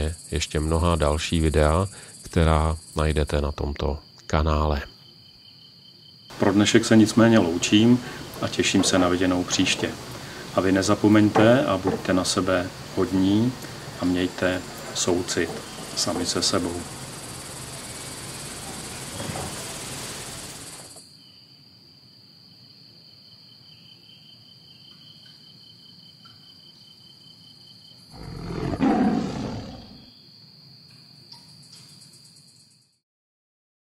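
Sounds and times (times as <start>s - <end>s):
high insect-like chirring: 0.0s - 21.6s, 23.7s - 33.0s
outdoor background hiss: 0.0s - 33.0s.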